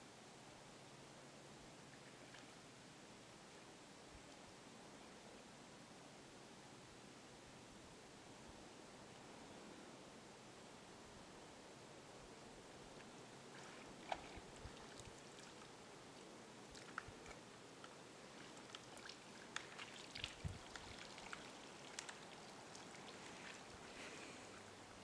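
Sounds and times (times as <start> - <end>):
quiet hiss: 0.0 - 25.0.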